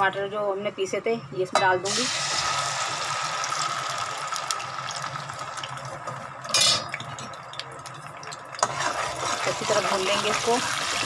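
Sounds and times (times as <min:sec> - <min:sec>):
puree sizzling in hot oil: 0:01.9 - 0:11.0.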